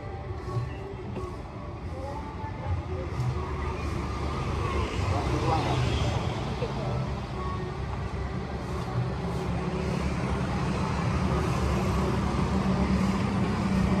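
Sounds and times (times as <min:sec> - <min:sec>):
street traffic noise: 0:00.0 - 0:14.0
motorbike engines rumbling: 0:00.3 - 0:14.0.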